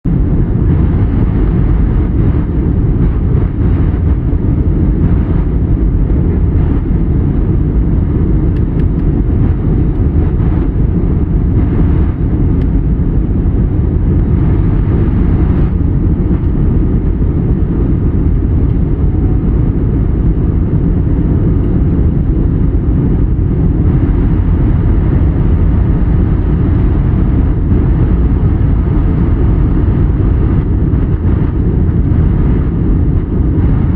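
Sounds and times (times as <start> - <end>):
jet engine and airflow rumble in cabin: 0.0 - 33.9.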